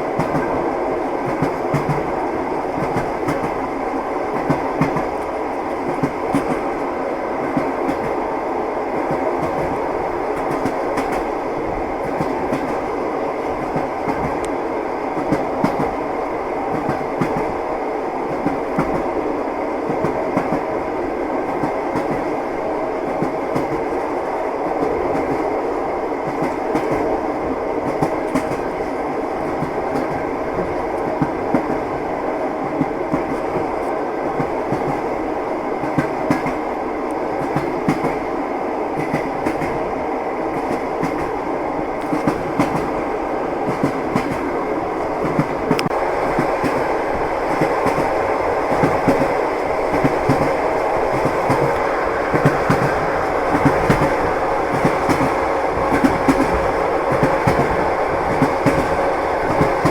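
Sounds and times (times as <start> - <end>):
train wheels clattering over rails: 0.0 - 8.2, 8.9 - 19.2, 19.8 - 25.6, 27.8 - 32.0, 35.8 - 36.7, 37.4 - 38.3, 40.5 - 59.9.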